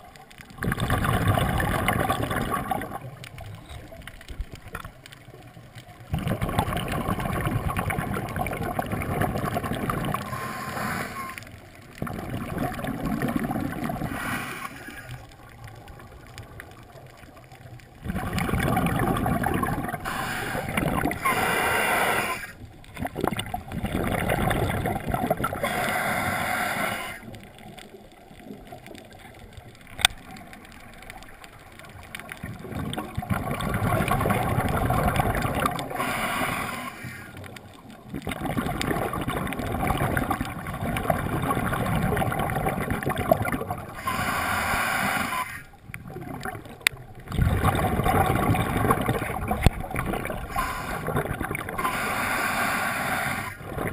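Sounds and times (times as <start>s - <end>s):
underwater exhaled bubbles gurgling: 0.0s - 53.9s.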